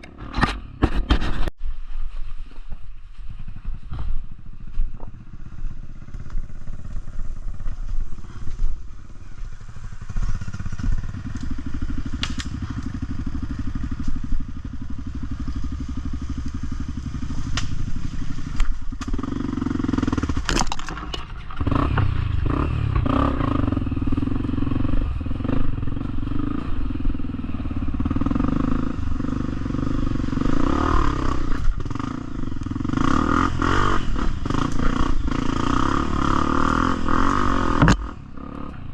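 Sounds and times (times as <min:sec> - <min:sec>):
off-road motorcycle engine: 0:00.0 - 0:38.9.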